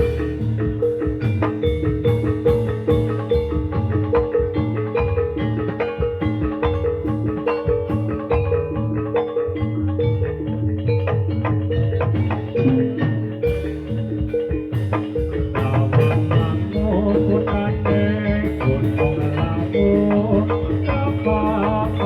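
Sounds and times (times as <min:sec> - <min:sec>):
drums: 0:00.0 - 0:22.0
metallophones striking notes: 0:00.0 - 0:22.0.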